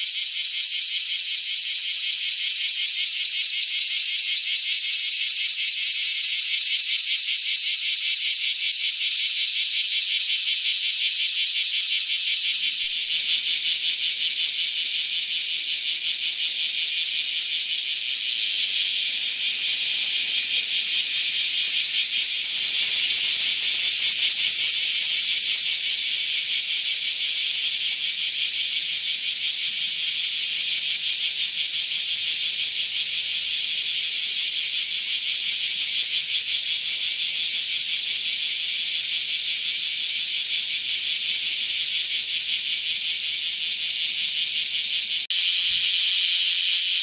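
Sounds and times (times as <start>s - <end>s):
cicada pulsing buzz: 0.0s - 47.0s.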